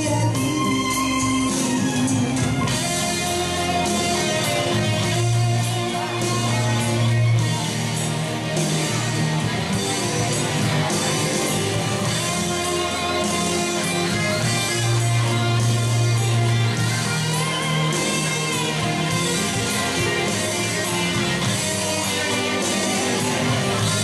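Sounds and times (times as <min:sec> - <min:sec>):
guitar music: 0:00.0 - 0:24.0
held bass notes: 0:00.0 - 0:24.0.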